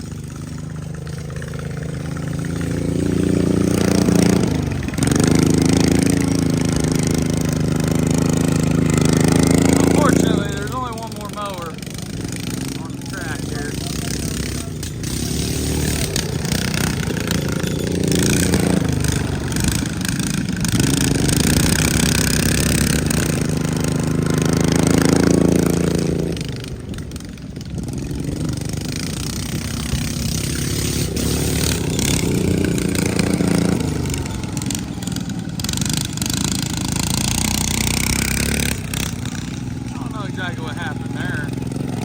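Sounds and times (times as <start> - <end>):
racing lawn mower engines: 0.0 - 42.0.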